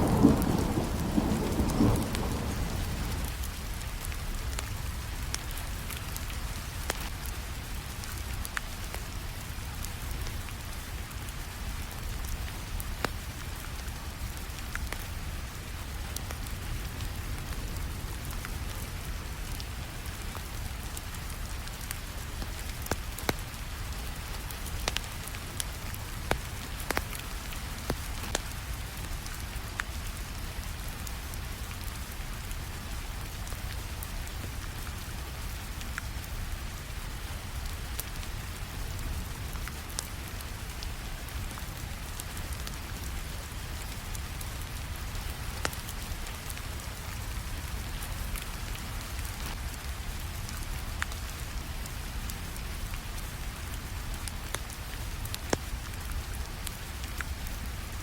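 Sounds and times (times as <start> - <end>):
log fire crackling: 0.0 - 58.0
steady rainfall: 0.0 - 58.0.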